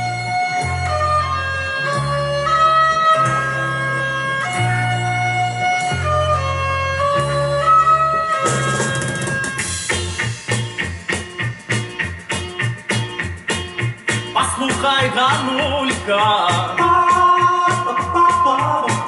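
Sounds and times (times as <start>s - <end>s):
folk-rock instrumental: 0.0s - 19.0s.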